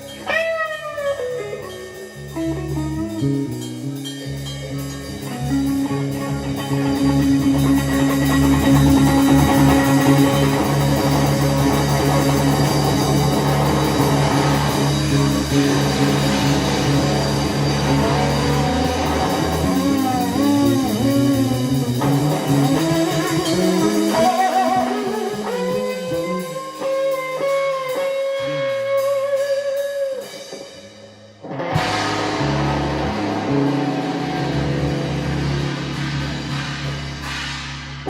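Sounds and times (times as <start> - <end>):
electric guitar sustained note: 0.0 - 26.8, 31.5 - 37.0
blues-rock band playing: 0.0 - 38.0.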